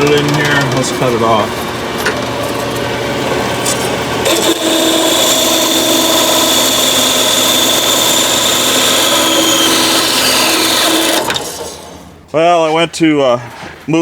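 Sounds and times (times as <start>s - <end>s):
bandsaw cutting metal: 0.0s - 12.1s.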